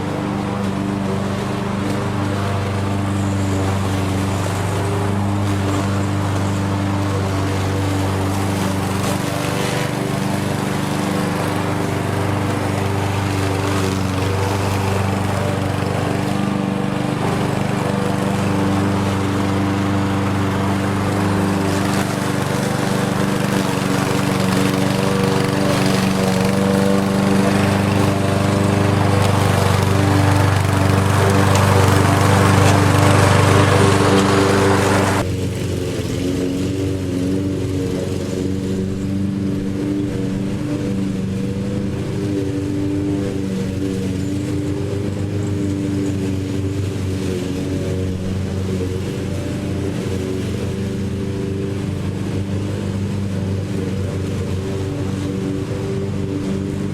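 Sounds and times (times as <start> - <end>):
lawn mower running: 0.0 - 56.9.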